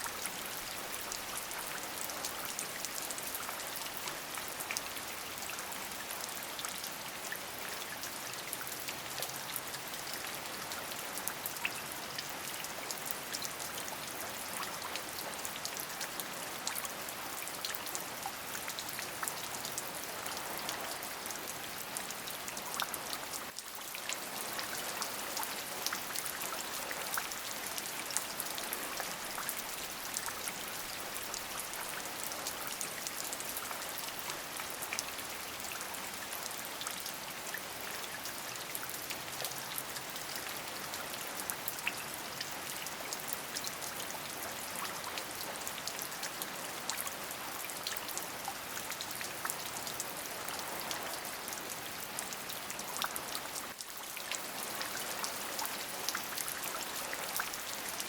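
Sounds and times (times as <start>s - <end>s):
steady rain with drops ticking: 0.0s - 58.0s.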